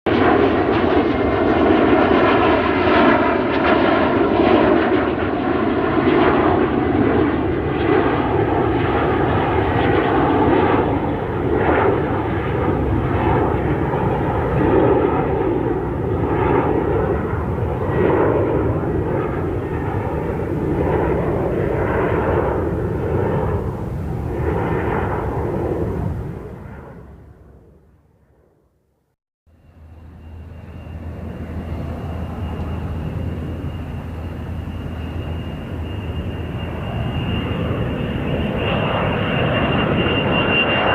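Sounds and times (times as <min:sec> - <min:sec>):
airplane engine drone: 0:00.1 - 0:40.9.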